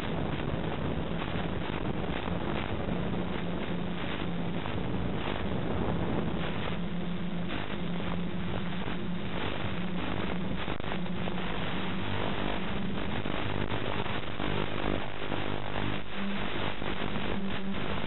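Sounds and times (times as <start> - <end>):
static hiss: 0.0 - 18.0
wind rush: 0.0 - 18.0.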